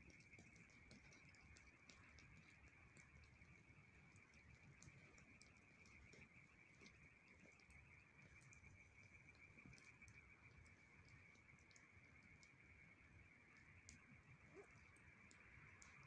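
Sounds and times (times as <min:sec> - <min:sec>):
campfire crackling: 0:00.0 - 0:16.0
faint high-pitched hum: 0:00.0 - 0:16.0.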